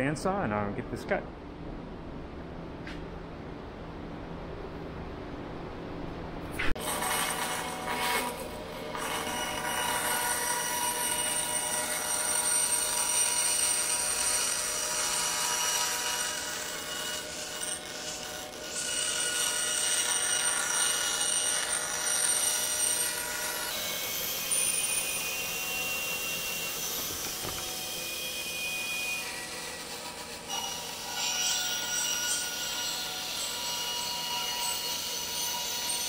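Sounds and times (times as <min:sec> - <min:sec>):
bandsaw cutting plywood: 0:06.6 - 0:36.0.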